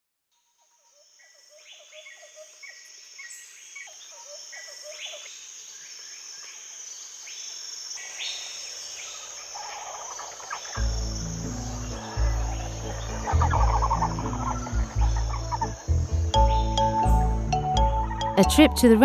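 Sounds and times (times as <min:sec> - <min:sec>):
bird calls: 0:00.6 - 0:18.4
high insect drone: 0:00.6 - 0:18.4.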